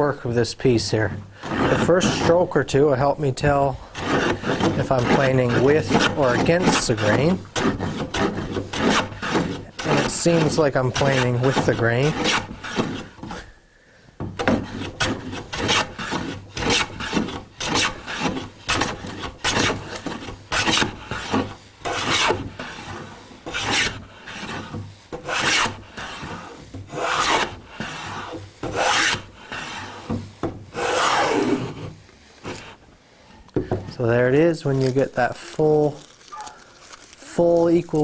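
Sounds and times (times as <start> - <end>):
hand plane shaving wood: 0.0 - 13.5, 14.2 - 32.8.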